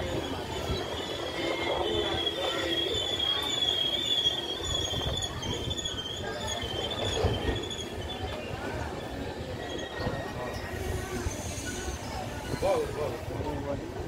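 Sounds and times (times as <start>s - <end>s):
metallic wheel and brake squeal: 0.0s - 13.2s
train coaches rumbling: 0.0s - 14.0s.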